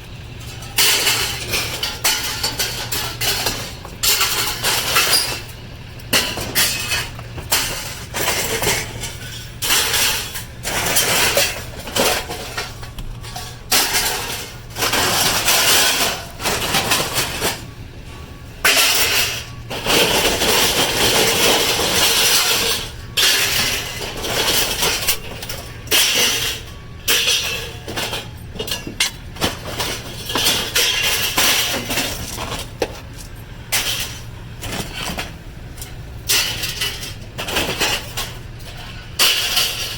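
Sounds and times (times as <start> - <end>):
scrap metal clanking in dumpster: 0.0 - 39.9.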